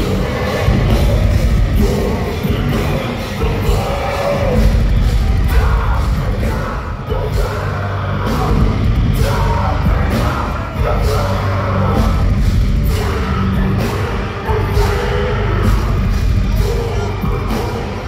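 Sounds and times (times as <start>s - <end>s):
distorted electric guitars: 0.0s - 18.0s
drums: 0.0s - 18.0s
vocalist singing and yelling: 0.0s - 18.0s.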